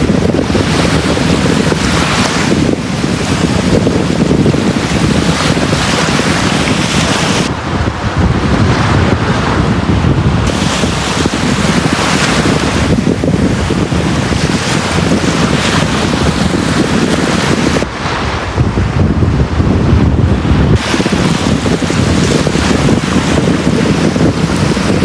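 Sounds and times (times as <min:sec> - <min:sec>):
sea waves breaking on beach: 0:00.0 - 0:19.0, 0:20.4 - 0:25.0.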